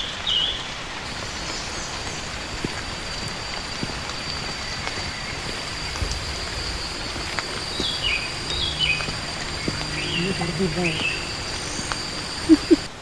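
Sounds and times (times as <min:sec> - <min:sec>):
steady forest hiss: 0:00.0 - 0:13.0.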